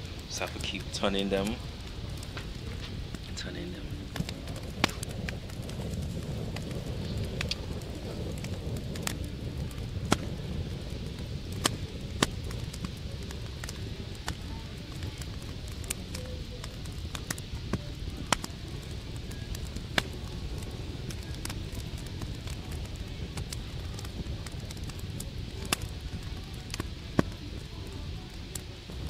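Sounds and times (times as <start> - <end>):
low rumble: 0.0 - 29.0
wood fire crackling: 0.0 - 29.0.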